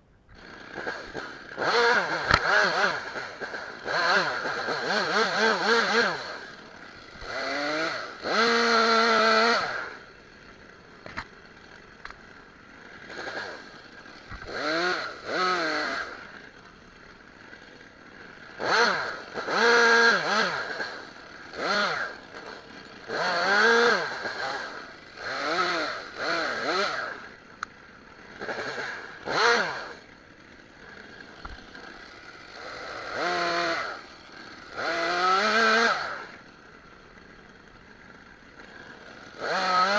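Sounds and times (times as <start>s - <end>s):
chainsaw revving: 0.3s - 39.9s.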